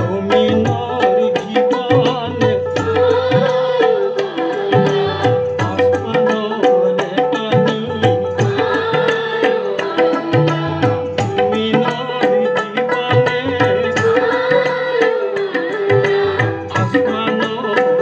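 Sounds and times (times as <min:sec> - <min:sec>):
group singing: 0:00.0 - 0:18.0
hand drums beating: 0:00.0 - 0:18.0
harmonium: 0:00.0 - 0:18.0.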